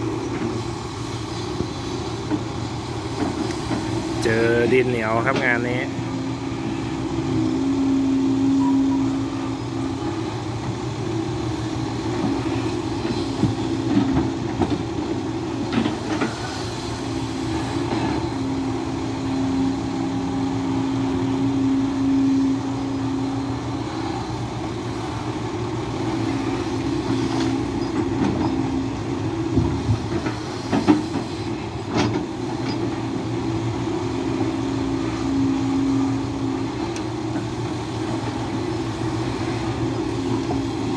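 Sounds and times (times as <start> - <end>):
excavator engine humming under load: 0.0 - 40.9.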